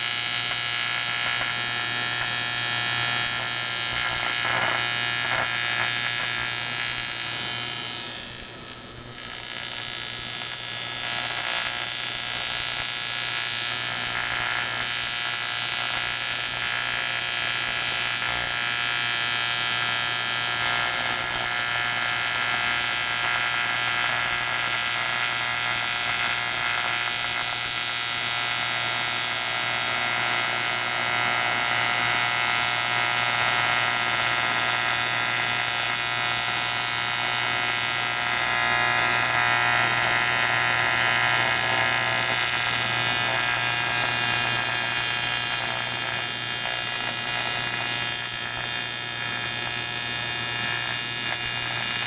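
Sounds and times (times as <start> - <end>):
welding arc buzzing: 0.0 - 52.0.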